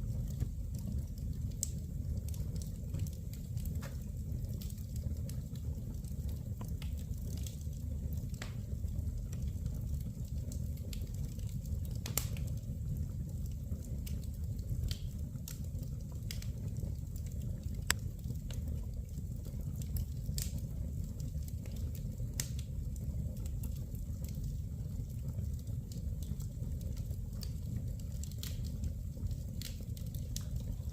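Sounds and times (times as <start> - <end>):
fire crackles and pops: 0.0 - 30.9
wood fire rumbling: 0.0 - 30.9.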